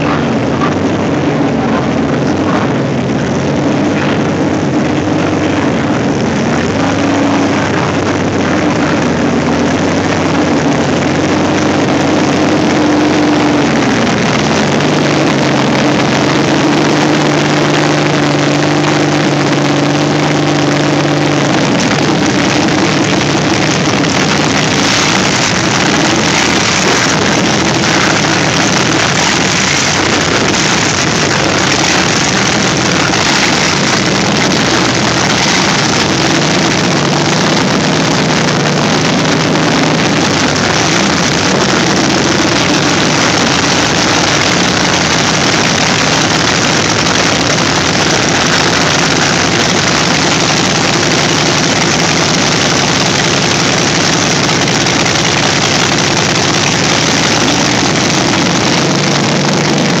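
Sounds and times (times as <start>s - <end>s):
loud aircraft engine running: 0.0s - 60.0s.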